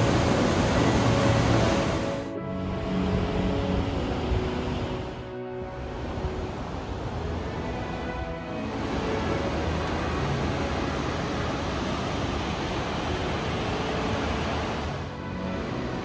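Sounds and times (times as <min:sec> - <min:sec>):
waterfall roaring: 0:00.0 - 0:02.3, 0:03.0 - 0:16.0
faint music: 0:00.0 - 0:16.0.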